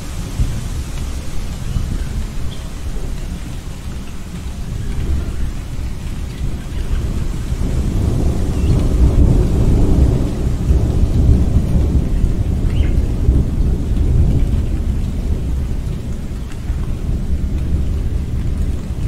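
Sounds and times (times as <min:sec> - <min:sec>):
rolling thunder: 0:00.0 - 0:19.0
steady rain: 0:00.0 - 0:19.0.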